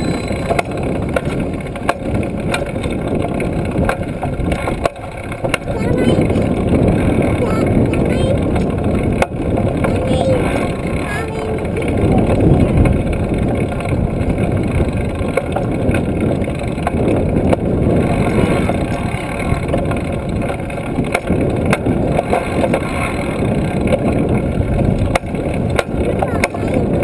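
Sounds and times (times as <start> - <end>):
bike rattling clicks: 0.0 - 5.7, 6.4 - 27.0
bike rolling rumble: 0.0 - 27.0
wind noise: 0.0 - 27.0.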